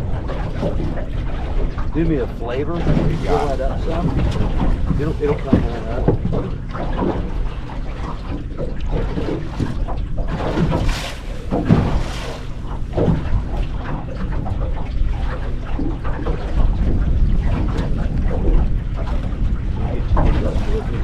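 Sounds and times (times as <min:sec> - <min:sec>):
steady low rumble: 0:00.0 - 0:21.0
water splashing and trickling: 0:00.0 - 0:21.0.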